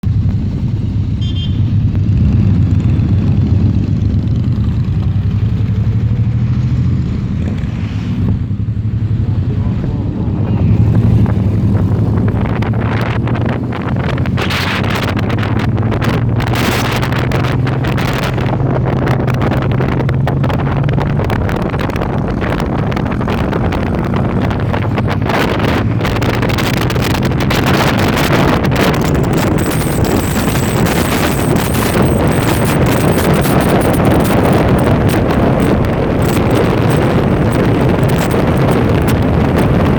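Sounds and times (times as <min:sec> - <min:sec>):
motorcycle engine running: 0:00.0 - 0:39.9
wind buffeting microphone: 0:01.8 - 0:39.9.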